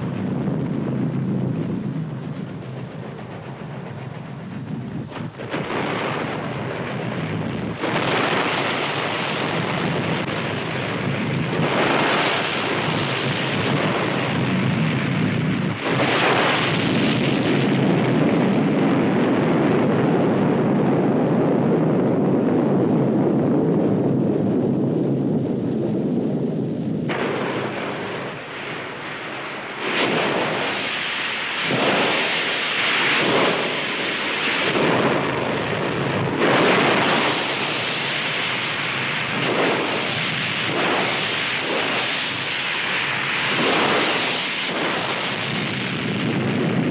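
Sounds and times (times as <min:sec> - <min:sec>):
thunder rumbling with sharp cracks: 0:00.0 - 0:46.9.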